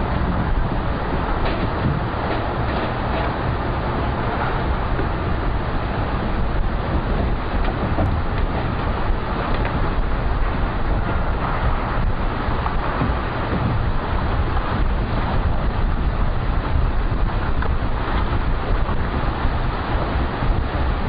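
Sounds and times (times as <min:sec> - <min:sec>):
water rushing: 0:00.0 - 0:21.0
wind buffeting microphone: 0:00.0 - 0:21.0.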